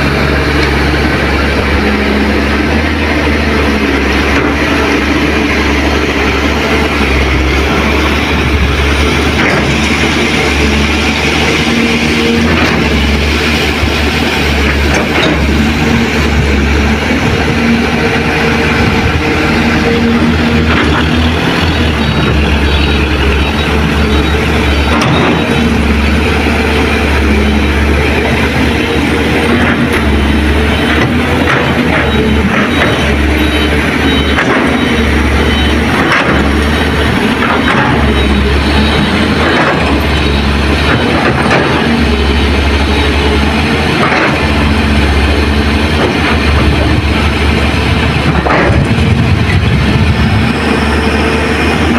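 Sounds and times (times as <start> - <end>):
dump truck diesel engines running: 0.0 - 51.9.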